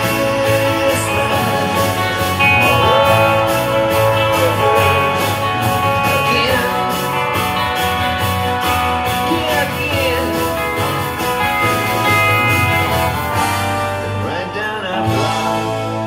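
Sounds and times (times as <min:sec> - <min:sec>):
drums keeping a steady beat: 0:00.0 - 0:14.2
bass guitar: 0:00.0 - 0:16.0
electric guitar playing rock: 0:00.0 - 0:16.0.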